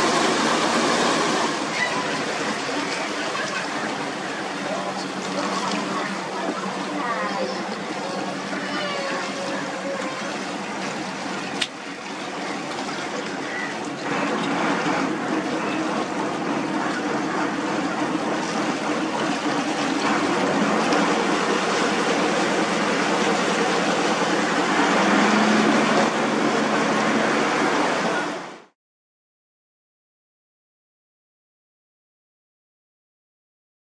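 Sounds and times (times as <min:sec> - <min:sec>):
waterside ambience: 0:00.0 - 0:28.8.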